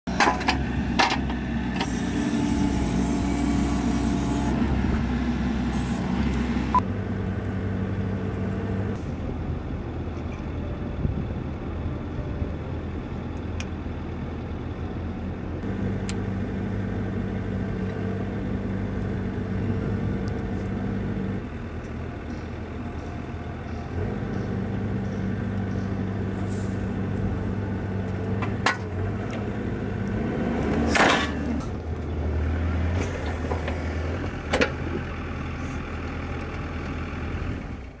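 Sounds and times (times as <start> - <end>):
excavator diesel engine running: 0.1 - 38.0.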